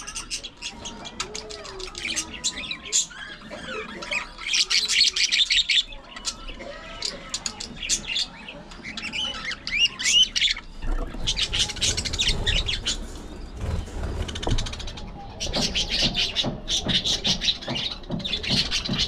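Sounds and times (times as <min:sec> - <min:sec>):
budgerigars chattering: 0:00.0 - 0:19.0.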